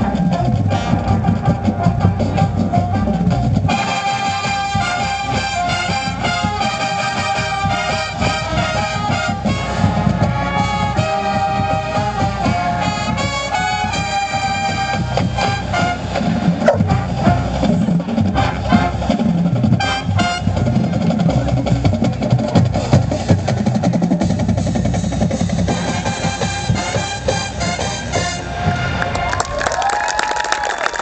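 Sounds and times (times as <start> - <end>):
brass chords: 0.0 - 21.1, 25.7 - 29.4
marching drums: 0.0 - 29.4.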